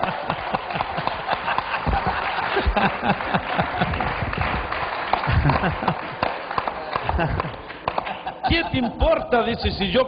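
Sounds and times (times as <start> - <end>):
man laughing into microphone: 0.0 - 6.3, 6.9 - 9.2
hand claps: 0.0 - 8.4
congregation laughing: 0.0 - 9.5.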